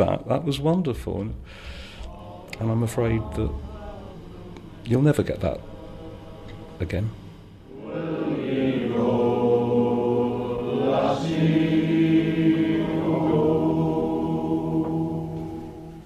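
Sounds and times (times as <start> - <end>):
chant-like choral singing: 2.0 - 16.0.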